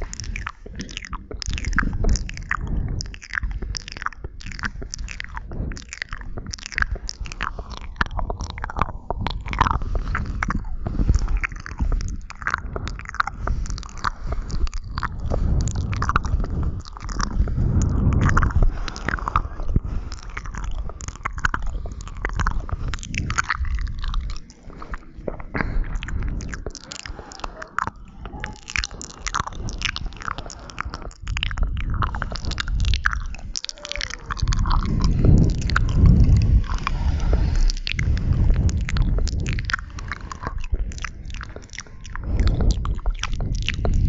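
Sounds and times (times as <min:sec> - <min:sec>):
low rumble: 0:00.0 - 0:44.0
wet mouth clicks and smacks: 0:00.0 - 0:44.0.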